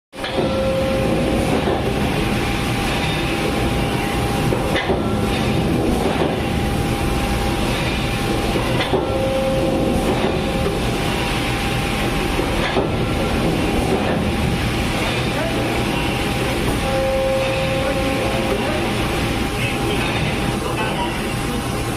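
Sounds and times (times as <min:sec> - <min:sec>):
hydraulic machinery running: 0:00.2 - 0:21.9.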